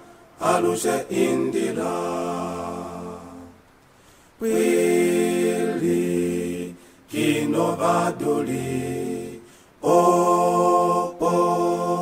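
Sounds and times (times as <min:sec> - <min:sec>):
unaccompanied hymn singing: 0:00.0 - 0:03.7, 0:04.4 - 0:12.0.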